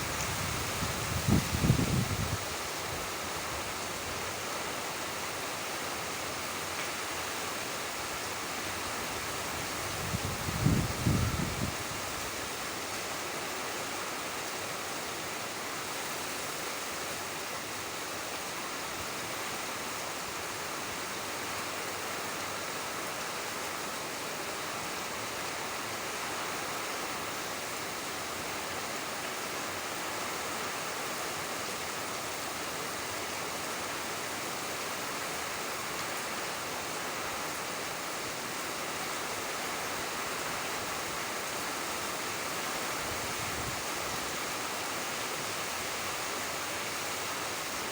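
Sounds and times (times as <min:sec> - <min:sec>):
steady rainfall: 0:00.0 - 0:47.9.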